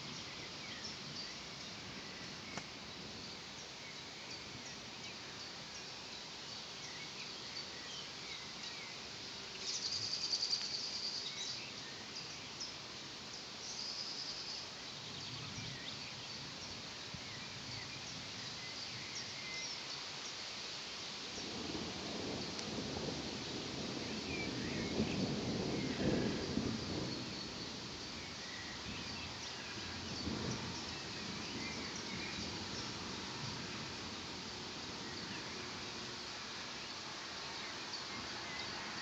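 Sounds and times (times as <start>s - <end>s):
background hiss: 0.0s - 39.0s.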